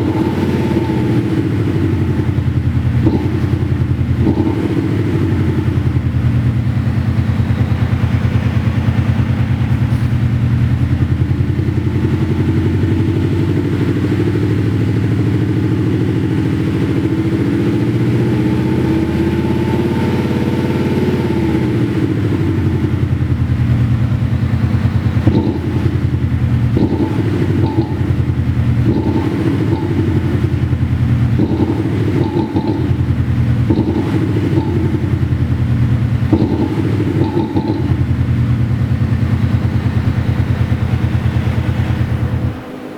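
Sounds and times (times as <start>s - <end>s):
synthesized sports car exhaust note: 0.0s - 42.9s.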